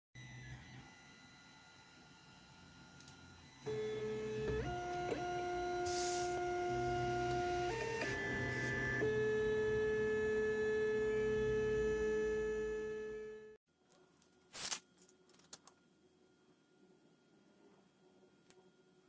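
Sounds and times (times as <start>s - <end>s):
electrical hum of pure tones: 0.3s - 19.0s.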